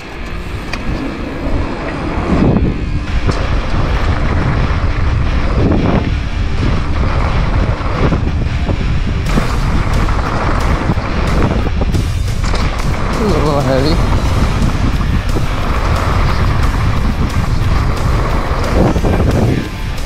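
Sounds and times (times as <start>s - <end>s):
bike rattling: 0.0s - 20.0s
bike tyres rumbling on dirt: 0.0s - 20.0s
wind noise on microphone: 0.0s - 20.0s.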